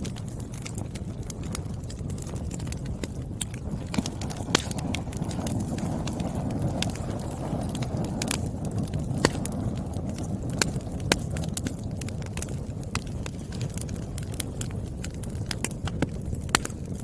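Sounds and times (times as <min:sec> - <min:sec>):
logs crackling and popping: 0:00.0 - 0:17.0
low rumble of fire: 0:00.0 - 0:17.0.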